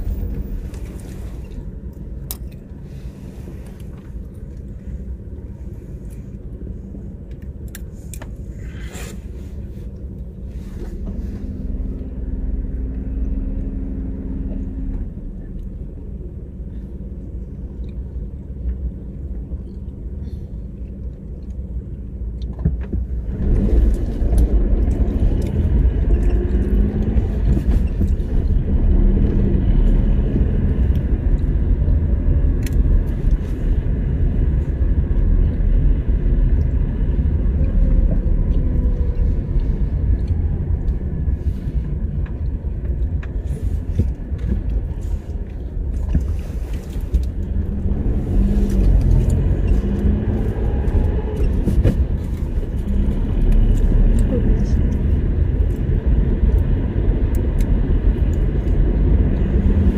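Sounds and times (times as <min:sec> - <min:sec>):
car engine rumble: 0:00.0 - 0:59.9
road noise: 0:00.0 - 0:59.9.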